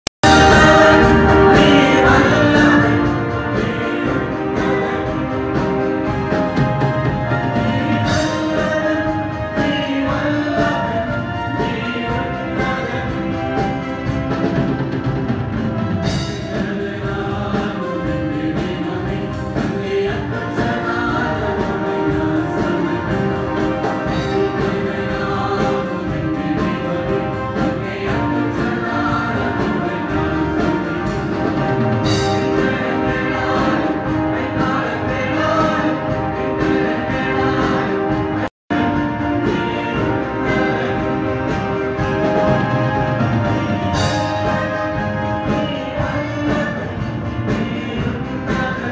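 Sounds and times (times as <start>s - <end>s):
choir singing gospel music: 0.2s - 48.9s
instrumental accompaniment with beat: 0.2s - 48.9s.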